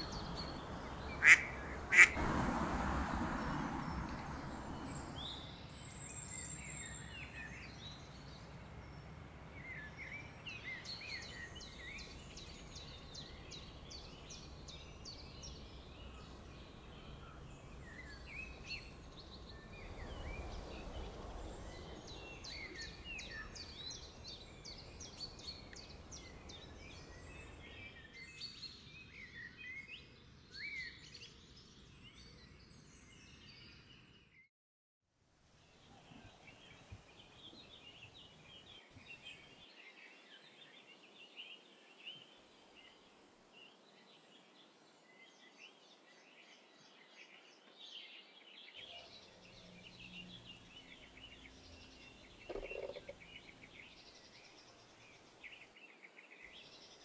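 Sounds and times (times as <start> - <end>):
small birds chirping: 0.0 - 2.4, 3.1 - 34.5, 35.6 - 57.0.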